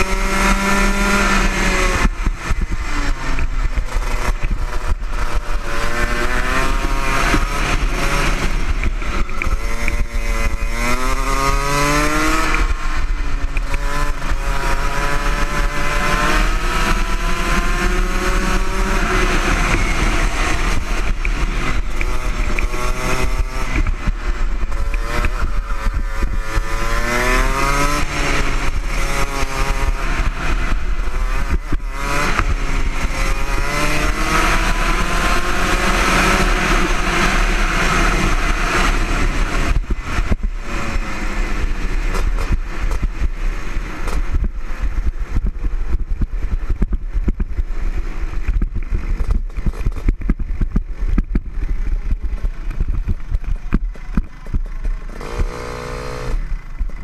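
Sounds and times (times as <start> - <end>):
kart engine running flat out: 0.0 - 44.3, 49.0 - 57.0
wind rumble on microphone: 0.0 - 57.0.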